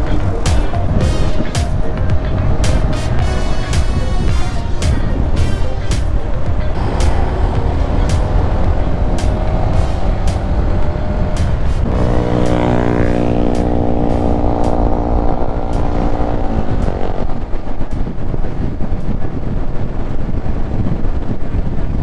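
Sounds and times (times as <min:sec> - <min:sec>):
steady droning tone: 0:00.0 - 0:21.5
wind and road rumble: 0:00.0 - 0:22.0.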